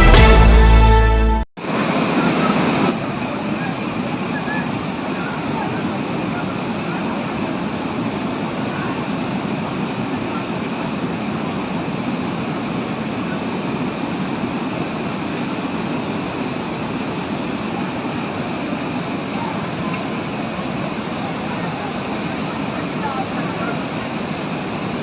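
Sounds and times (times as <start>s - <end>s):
floodwater rushing: 1.6s - 25.0s.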